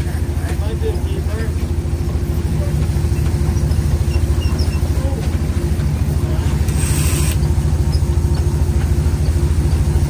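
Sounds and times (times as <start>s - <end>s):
engine running with low drone: 0.0s - 10.0s.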